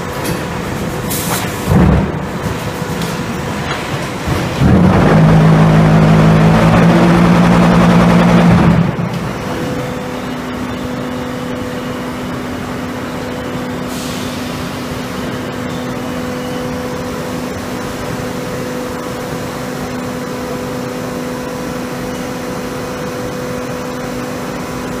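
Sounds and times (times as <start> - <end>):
machinery running: 0.0 - 25.0.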